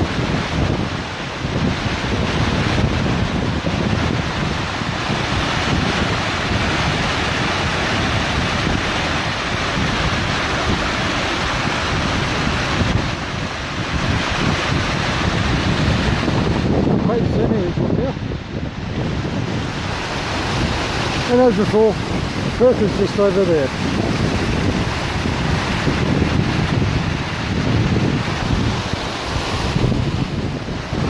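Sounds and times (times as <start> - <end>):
waterfall rushing: 0.0 - 31.0
wind buffeting microphone: 0.0 - 31.0.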